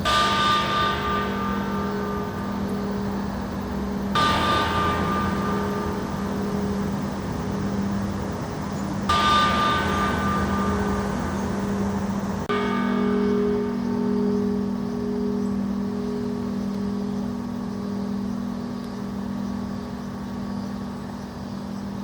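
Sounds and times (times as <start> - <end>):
large church bell ringing: 0.0 - 21.0.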